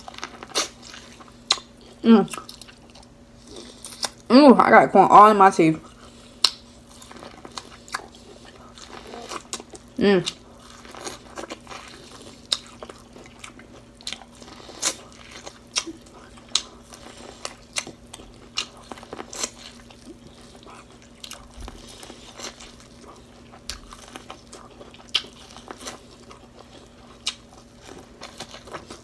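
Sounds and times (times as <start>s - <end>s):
crunchy chewing of corn: 0.0s - 4.3s, 5.8s - 29.0s
faint steady hum: 0.0s - 29.0s.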